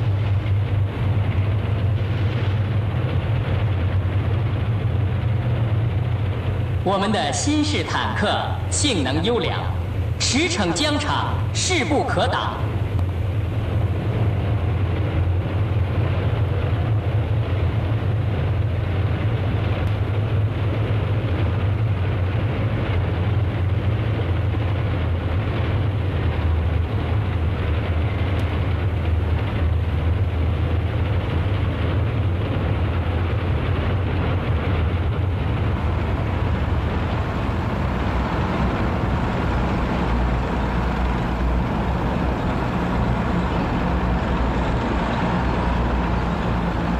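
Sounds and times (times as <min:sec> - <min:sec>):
tank engines and tracks rumbling: 0:00.0 - 0:46.9.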